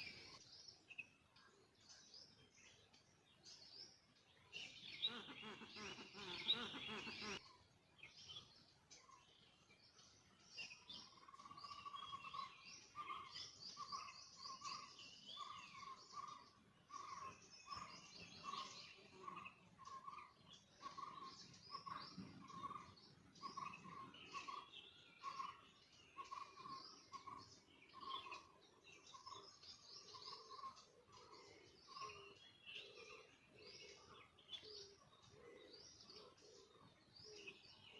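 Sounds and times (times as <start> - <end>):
birds chirping and trilling: 0.0 - 37.9.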